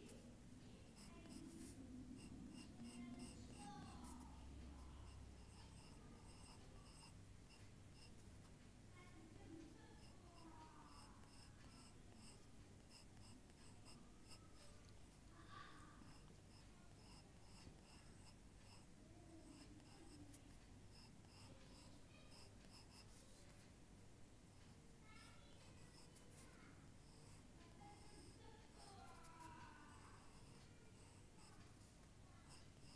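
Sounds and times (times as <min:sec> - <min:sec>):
pencil scratching on paper: 0:00.0 - 0:23.7, 0:24.5 - 0:32.9.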